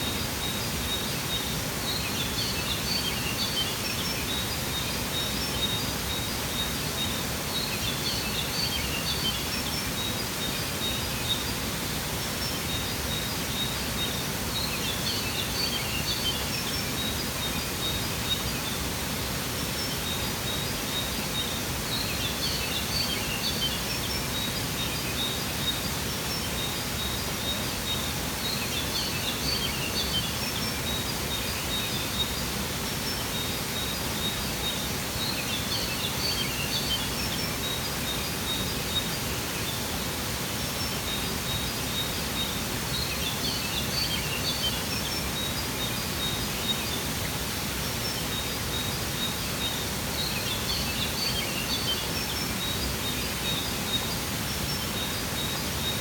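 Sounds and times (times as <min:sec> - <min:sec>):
small birds twittering: 0:00.0 - 0:56.0.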